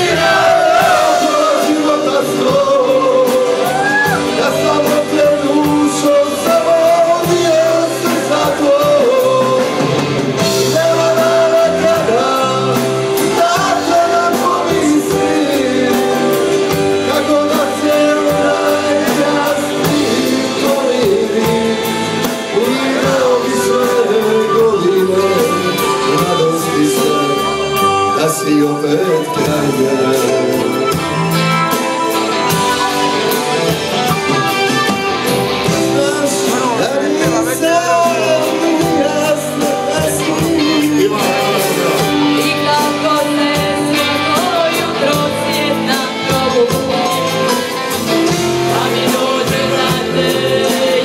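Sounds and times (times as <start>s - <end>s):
man singing into microphone: 0.0s - 31.3s, 35.6s - 51.0s
drums: 0.0s - 51.0s
keyboard and guitar: 0.0s - 51.0s.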